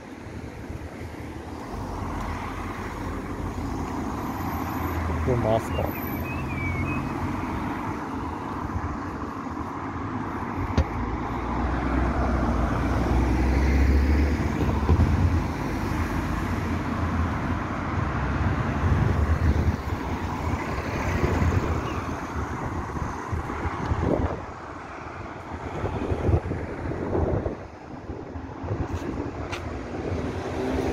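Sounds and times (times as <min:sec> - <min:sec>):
cars driving past: 0:00.2 - 0:30.9.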